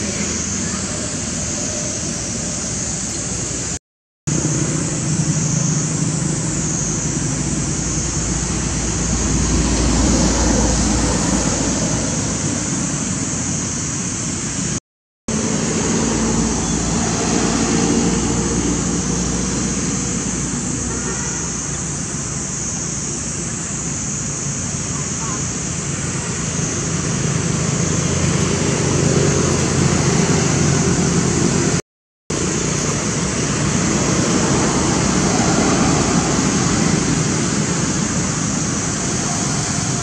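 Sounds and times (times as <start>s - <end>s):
high hiss: 0.0s - 40.0s.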